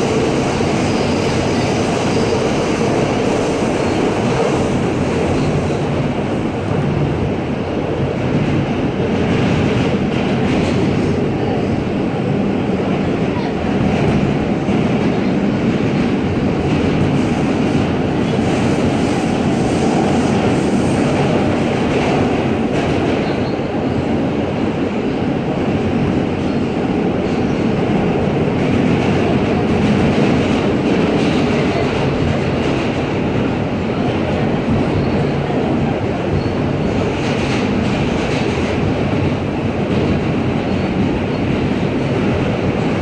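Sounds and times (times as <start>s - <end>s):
subway wheels rumbling on rails: 0.0s - 43.0s.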